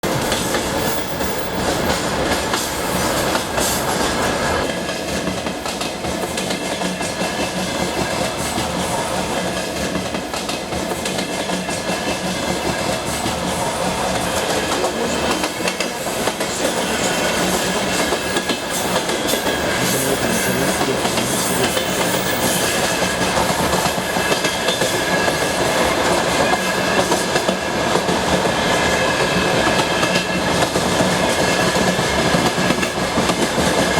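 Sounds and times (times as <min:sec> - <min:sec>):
clickety-clack of rail joints: 0:00.0 - 0:33.9
train wheels rumbling: 0:00.0 - 0:33.9.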